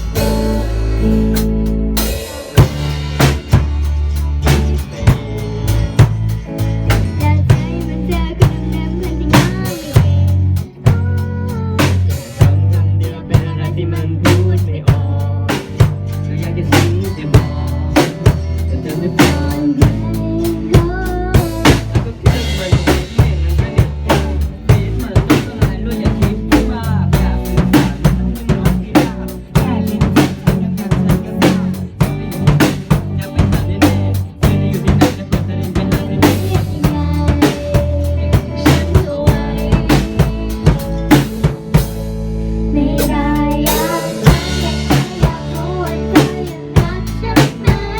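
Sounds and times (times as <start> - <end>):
band music: 0.0 - 47.9
bass notes: 0.0 - 47.9
drum kit beat: 0.0 - 47.9.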